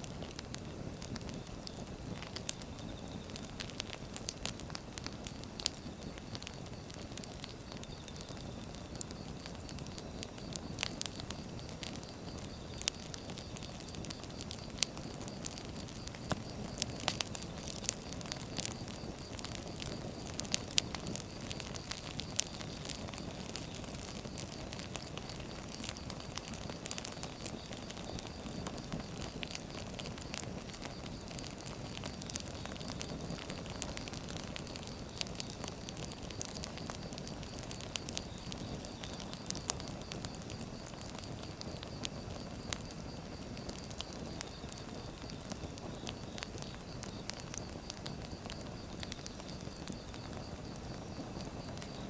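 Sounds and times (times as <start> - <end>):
firewood crackling and popping: 0.0 - 52.0
low rumble of flames: 0.0 - 52.0.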